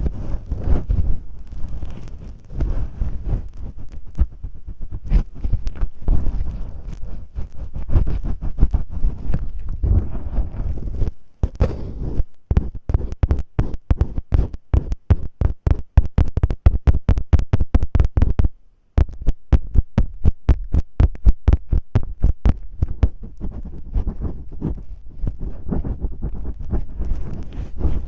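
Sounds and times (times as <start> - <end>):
tape pressed and peeled on microphone: 0.0 - 28.0.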